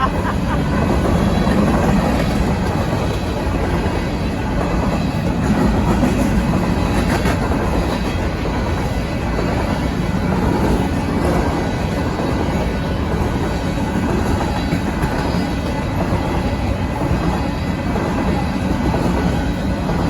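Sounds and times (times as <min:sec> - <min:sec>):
steel wheels rumbling on rail: 0:00.0 - 0:20.0
train cars clattering: 0:00.0 - 0:20.0.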